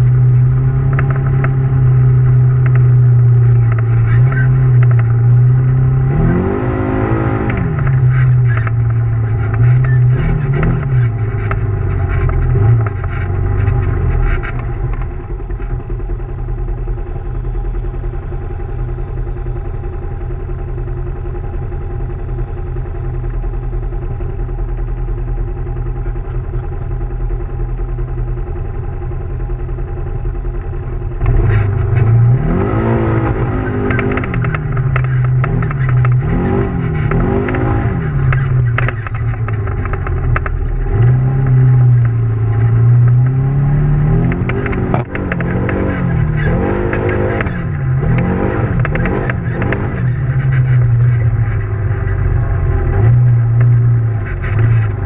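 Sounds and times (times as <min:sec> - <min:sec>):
vehicle engine revving and idling: 0:00.0 - 0:55.0.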